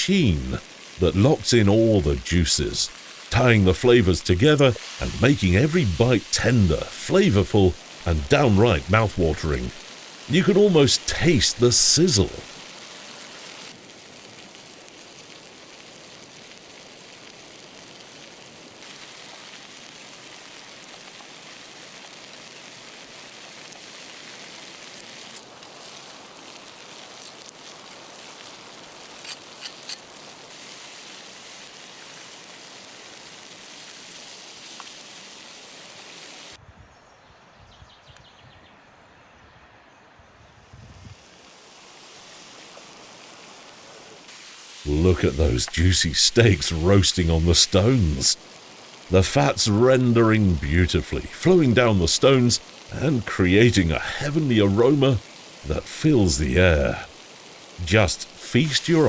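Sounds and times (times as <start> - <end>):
steaks sizzling on hot stones: 0.4 - 36.6, 41.3 - 59.0.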